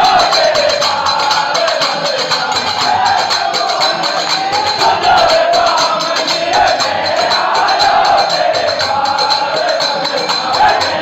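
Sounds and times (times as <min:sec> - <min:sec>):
fast percussion beat: 0:00.0 - 0:11.0
men singing in unison: 0:00.0 - 0:11.0.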